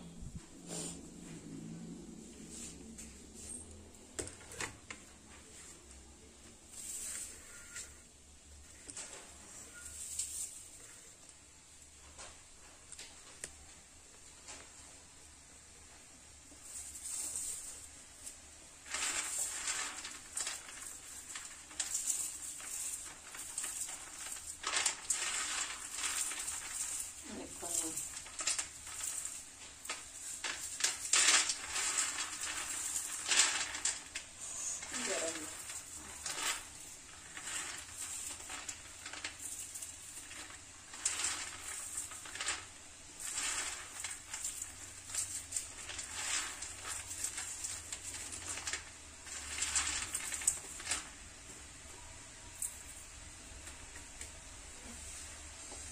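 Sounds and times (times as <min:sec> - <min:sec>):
peanut skins rustling and crackling: 0:01.1 - 0:55.9.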